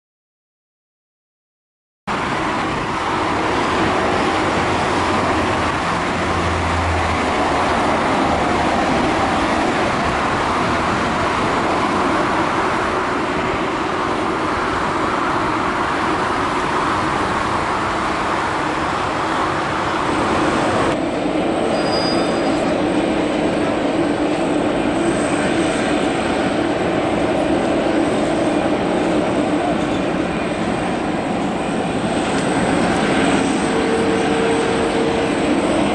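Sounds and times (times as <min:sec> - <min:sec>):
jet engines humming at low power: 0:02.1 - 0:35.9
jet engines roaring: 0:02.1 - 0:35.9.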